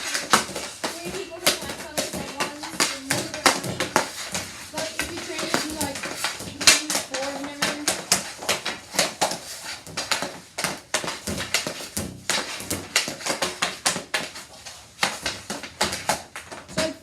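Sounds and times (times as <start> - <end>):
hockey sticks and pucks clacking: 0.0 - 17.0
pucks rebounding off passers: 0.0 - 17.0.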